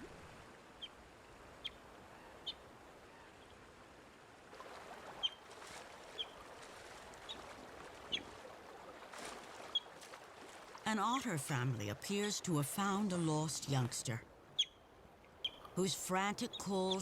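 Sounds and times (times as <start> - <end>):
flowing river: 0.0 - 17.0.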